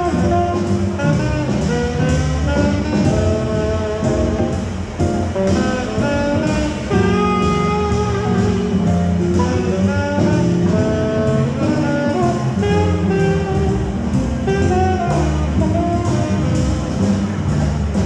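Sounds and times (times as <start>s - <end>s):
instrumental jazz: 0.0s - 18.0s.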